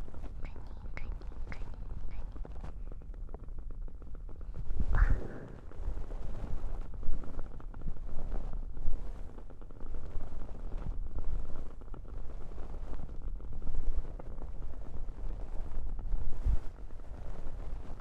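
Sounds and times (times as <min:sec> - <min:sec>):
candle crackling: 0:00.0 - 0:18.0.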